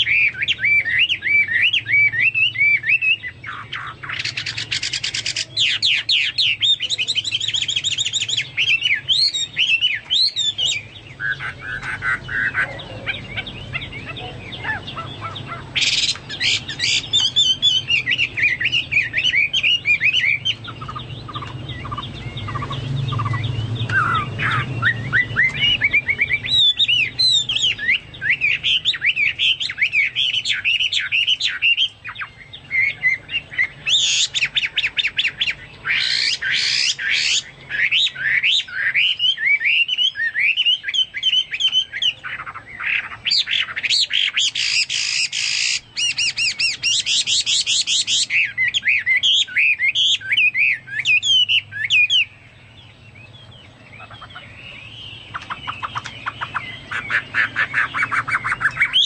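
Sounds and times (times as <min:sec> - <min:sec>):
bird singing rapid whistled song: 0:00.0 - 0:59.0.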